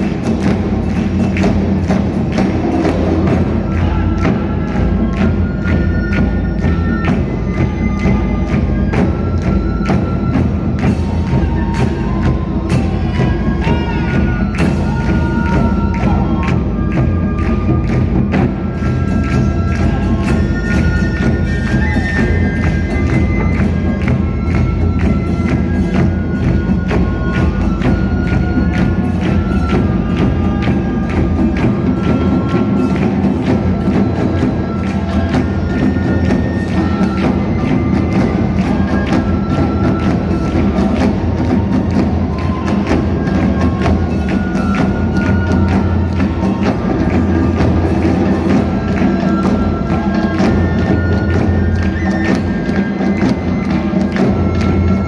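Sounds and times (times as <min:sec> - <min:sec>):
bamboo flutes playing melody: 0:00.0 - 0:55.0
drum ensemble playing: 0:00.0 - 0:55.0.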